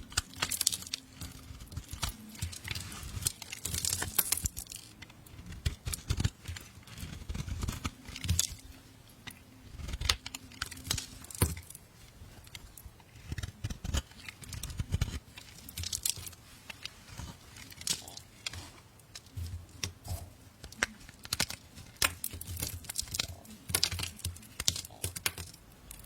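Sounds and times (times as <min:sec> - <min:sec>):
knife scraping soap: 0:00.0 - 0:26.0.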